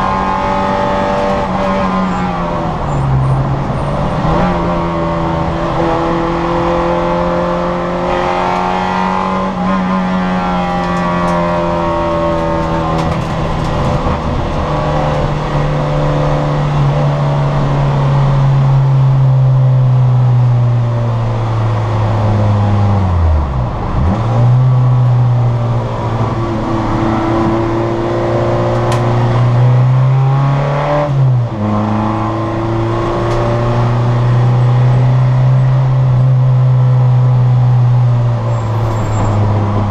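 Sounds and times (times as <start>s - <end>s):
racing car engine revving: 0.0s - 19.2s, 21.3s - 39.9s.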